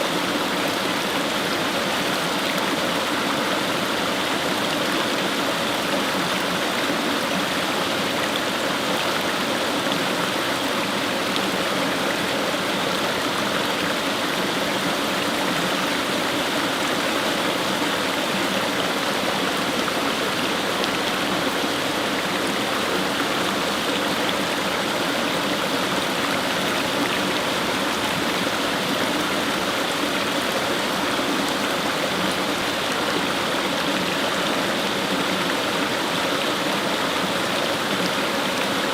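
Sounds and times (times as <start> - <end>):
water rushing over stones: 0.0 - 38.9.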